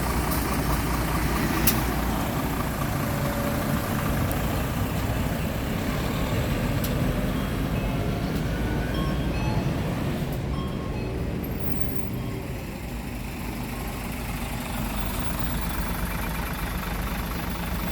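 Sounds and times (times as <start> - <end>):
bus diesel engine idling: 0.0 - 17.9.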